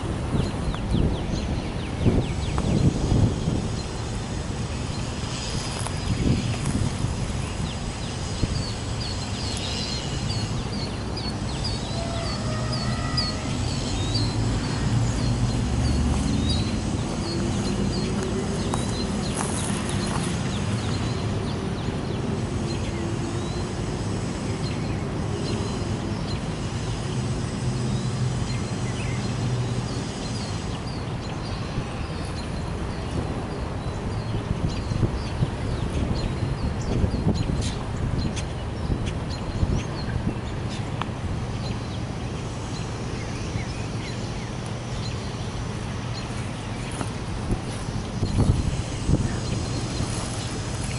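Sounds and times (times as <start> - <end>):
wind on microphone: 0.0 - 23.6, 30.5 - 42.0, 45.0 - 50.9
diesel locomotives rumbling: 0.0 - 50.9.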